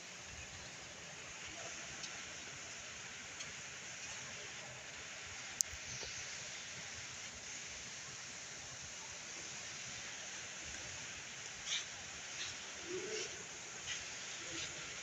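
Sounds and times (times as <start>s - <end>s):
hall room tone hiss: 0.0s - 15.0s.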